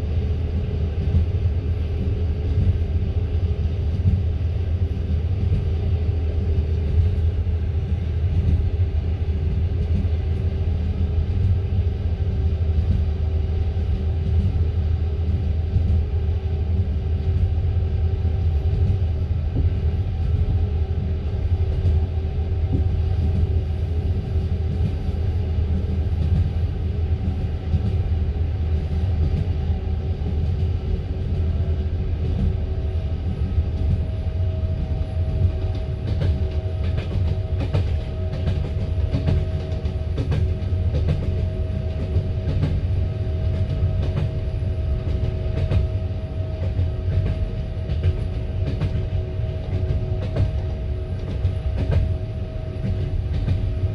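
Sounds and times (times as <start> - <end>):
train wheels rumbling: 0.0 - 53.9.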